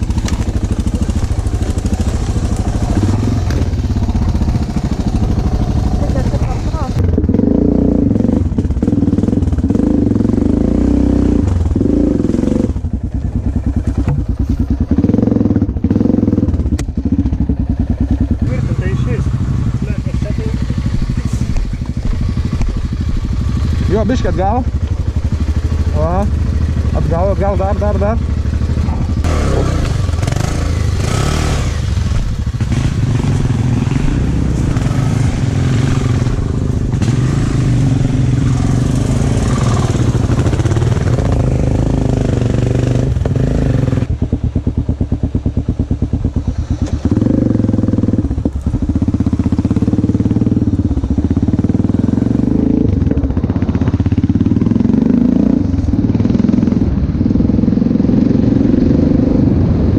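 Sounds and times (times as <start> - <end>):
motorcycle engine under throttle: 0.0 - 59.9.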